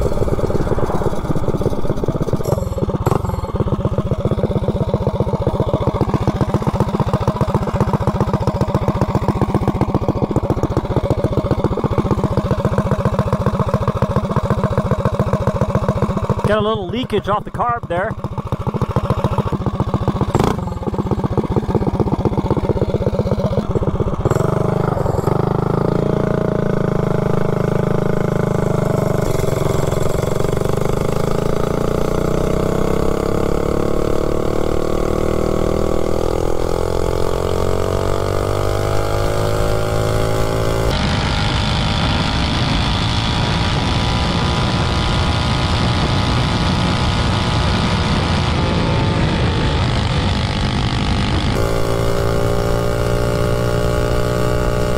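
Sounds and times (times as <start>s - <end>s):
mini bike engine running: 0.0s - 54.9s.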